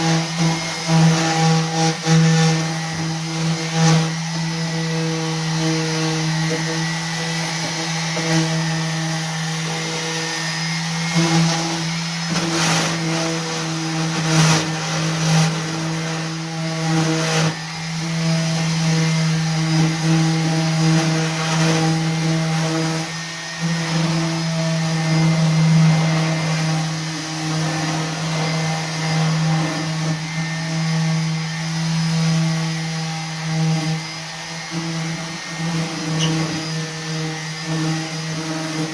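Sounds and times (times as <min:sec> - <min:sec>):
orbital sander on wood: 0:00.0 - 0:38.9.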